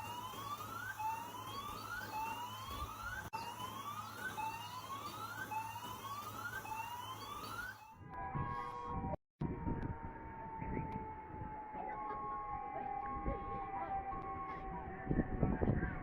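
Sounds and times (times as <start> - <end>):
siren whooping: 0.0 - 16.0.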